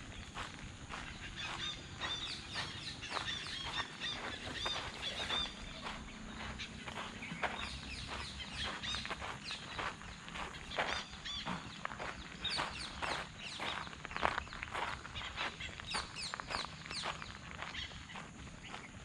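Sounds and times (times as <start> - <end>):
footsteps on dirt road: 0.0 - 19.0
small birds chirping: 0.0 - 19.0.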